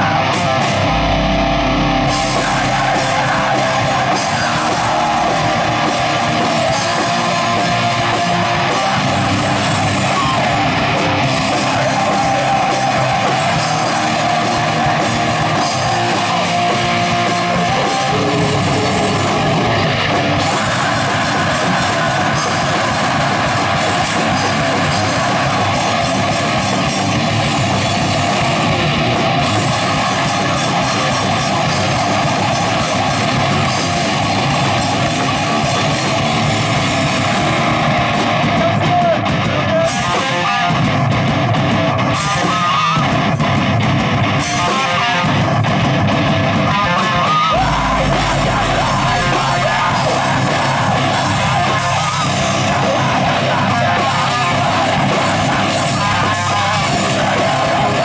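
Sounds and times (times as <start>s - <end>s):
heavy metal band playing live: 0.0s - 58.0s
loud electric guitars: 0.0s - 58.0s.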